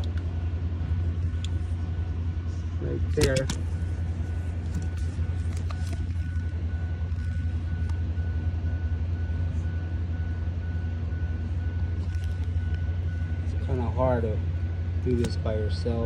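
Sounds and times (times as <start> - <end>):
faint high steady tone: 1.8 - 16.0.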